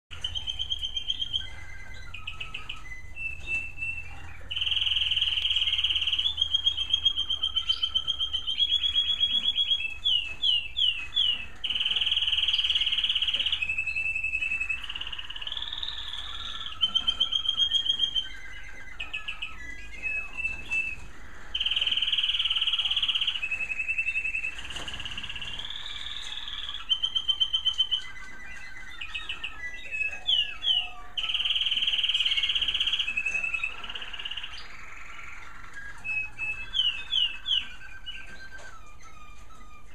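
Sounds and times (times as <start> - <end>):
canaries singing trills: 0.1 - 39.9.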